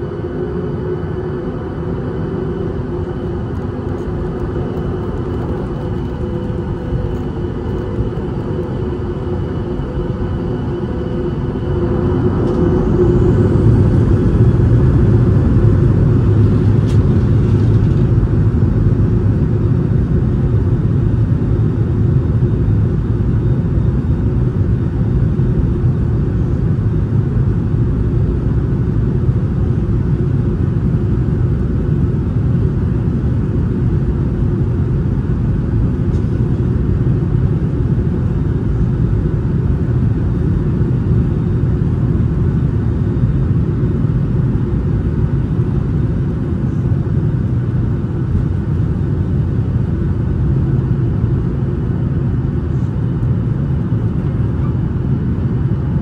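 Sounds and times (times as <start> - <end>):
jet engine cabin roar: 0.0 - 56.0.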